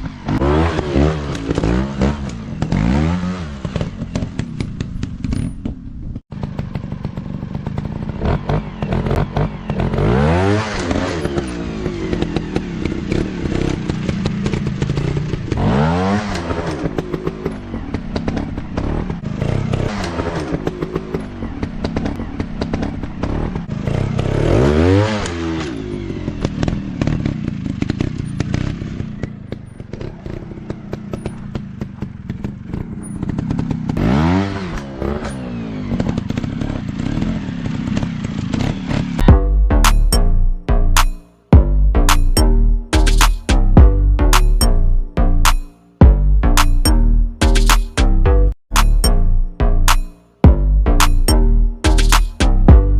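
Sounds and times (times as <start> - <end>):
motorcycle engine surging: 0.0 - 52.9
off-road motorcycle engines running: 0.0 - 52.9.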